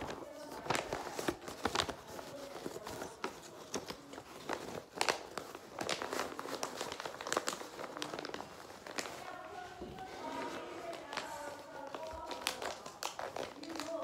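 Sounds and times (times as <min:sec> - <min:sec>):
paper being folded and crinkling: 0:00.0 - 0:14.0.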